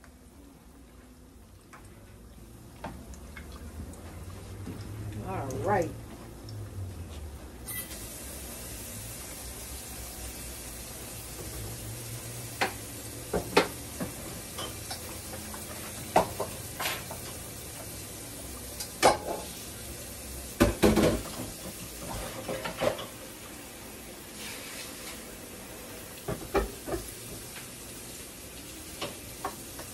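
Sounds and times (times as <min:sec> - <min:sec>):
croquettes sizzling in oil: 0:00.0 - 0:29.9.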